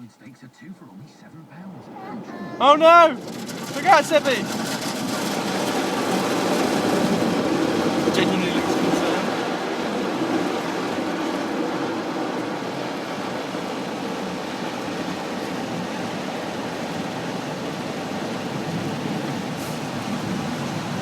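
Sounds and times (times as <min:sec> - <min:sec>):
car wash machinery rushing: 0:00.9 - 0:21.0.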